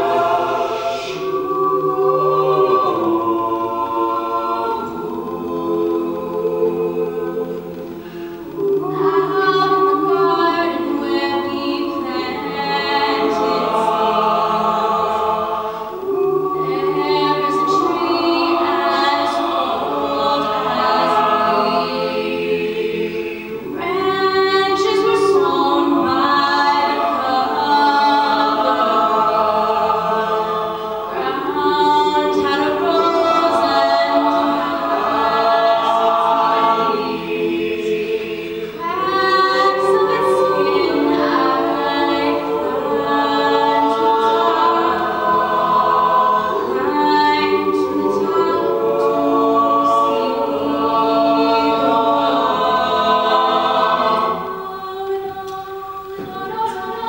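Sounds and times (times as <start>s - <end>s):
vocal ensemble sustained chords: 0.0s - 57.0s.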